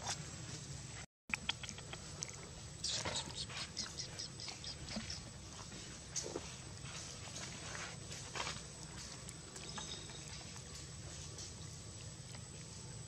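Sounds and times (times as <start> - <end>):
low steady background noise: 0.0 - 13.0
macaques rustling and eating: 0.0 - 13.0.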